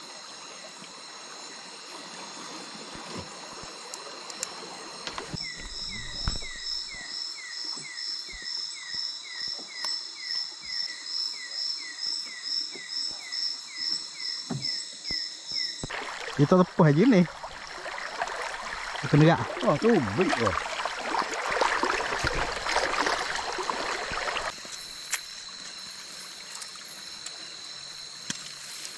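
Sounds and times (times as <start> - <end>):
insects trilling: 0.0 - 28.9.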